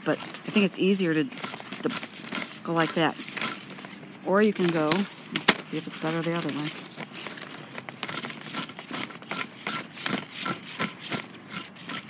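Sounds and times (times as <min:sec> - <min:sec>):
knife scraping cactus pad: 0:00.0 - 0:12.0.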